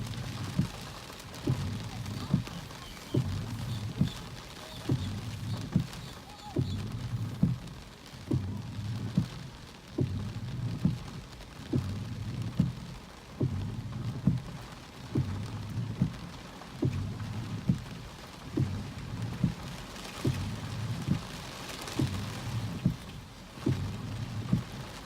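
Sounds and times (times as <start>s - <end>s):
rain: 0.0s - 25.0s
low rumble: 1.4s - 2.6s, 3.2s - 6.0s, 6.6s - 9.4s, 10.0s - 21.4s, 22.0s - 24.8s.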